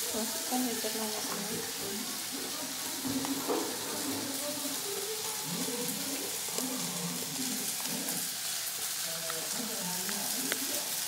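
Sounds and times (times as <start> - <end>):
sizzling hiss of frying: 0.0 - 11.0.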